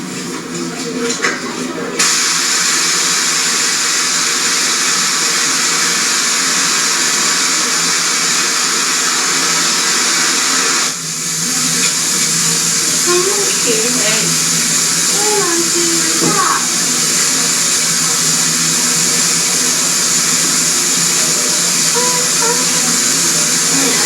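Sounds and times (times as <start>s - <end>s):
loud steady hiss: 2.0s - 24.0s.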